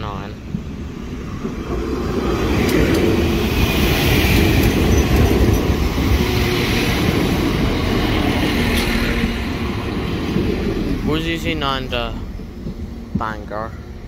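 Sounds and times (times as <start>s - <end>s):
train engine and wheels rumbling: 0.0s - 14.0s.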